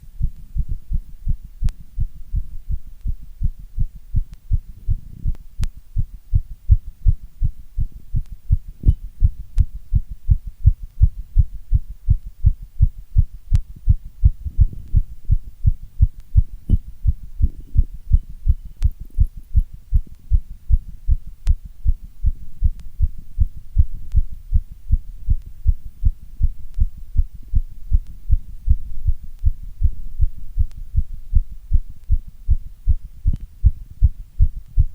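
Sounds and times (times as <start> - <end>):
heartbeat thudding: 0.0 - 34.9.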